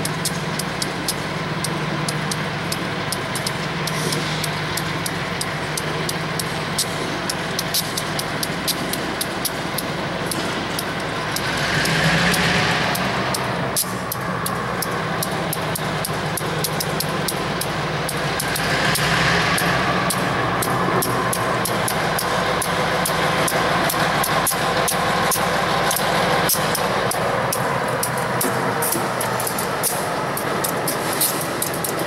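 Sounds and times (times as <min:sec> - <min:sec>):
locomotive diesel engine drone: 0:00.0 - 0:32.0
rapid sharp clicks: 0:00.0 - 0:32.0.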